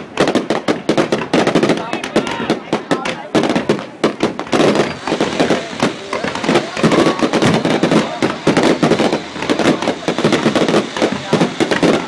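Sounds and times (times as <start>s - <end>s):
crowd chattering: 0.0s - 12.0s
fireworks exploding: 0.0s - 12.0s.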